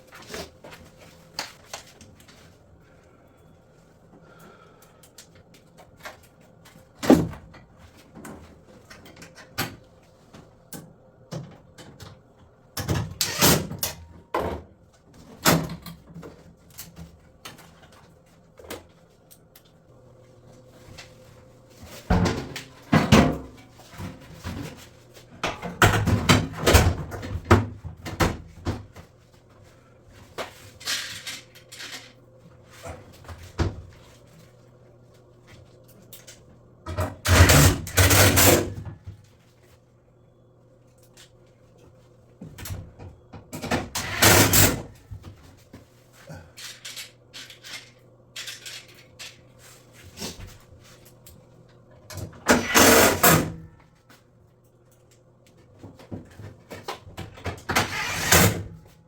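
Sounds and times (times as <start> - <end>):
faint steady hum: 0.0 - 57.3.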